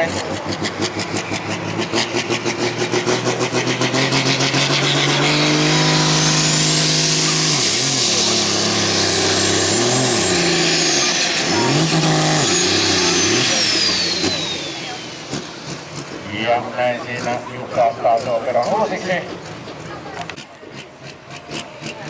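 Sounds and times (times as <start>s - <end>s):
diesel tractor engine revving: 0.0s - 22.0s.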